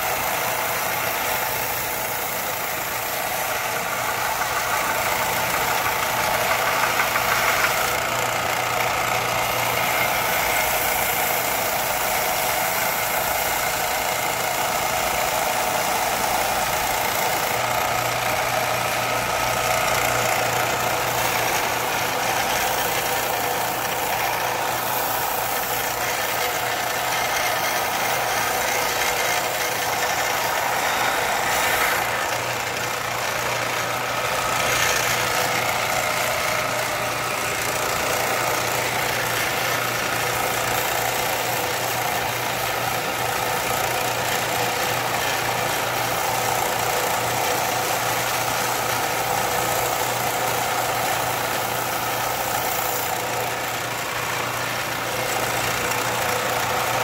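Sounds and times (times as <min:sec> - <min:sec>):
machine humming and hissing: 0:00.0 - 0:57.0.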